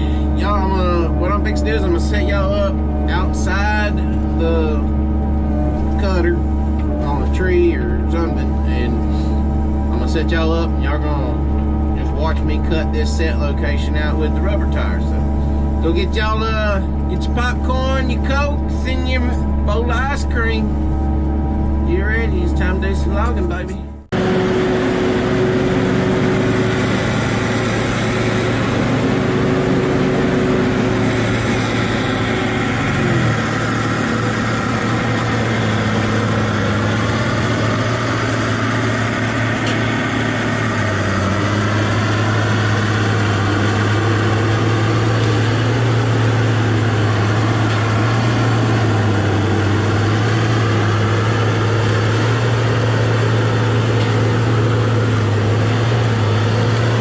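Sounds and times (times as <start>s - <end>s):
diesel engine running: 0.0s - 57.0s
wavering whine: 0.0s - 57.0s.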